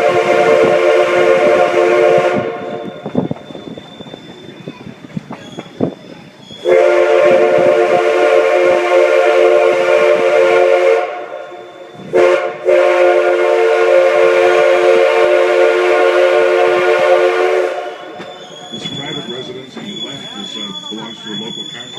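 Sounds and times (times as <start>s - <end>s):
steam locomotive whistle blasts: 0.0s - 4.4s, 5.6s - 21.9s
moving train rumble: 0.0s - 21.9s.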